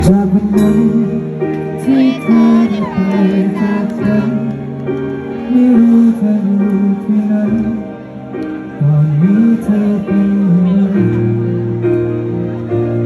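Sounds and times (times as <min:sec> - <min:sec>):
live band playing a ballad: 0:00.0 - 0:13.0.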